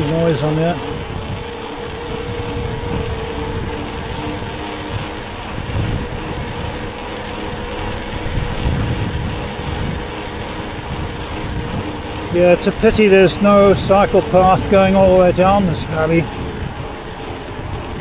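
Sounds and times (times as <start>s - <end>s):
faint steady whine: 0.0s - 18.0s
road traffic noise: 0.0s - 18.0s
wind buffeting microphone: 0.0s - 18.0s.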